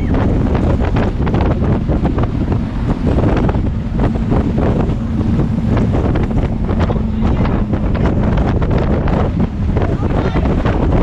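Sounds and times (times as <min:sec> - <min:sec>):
boat engines droning: 0:00.0 - 0:11.0
wind buffeting microphone: 0:00.0 - 0:11.0.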